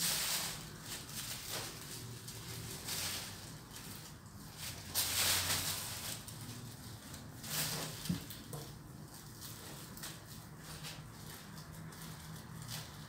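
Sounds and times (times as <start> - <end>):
plastic sheet rustling: 0.0 - 13.0.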